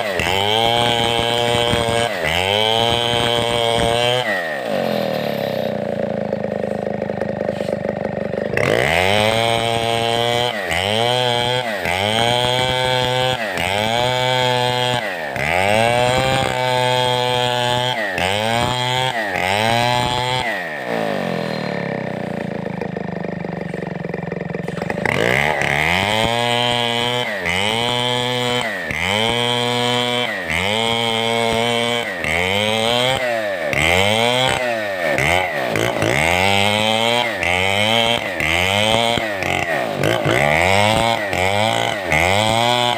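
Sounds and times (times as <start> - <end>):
chainsaw running hard: 0.0 - 42.9.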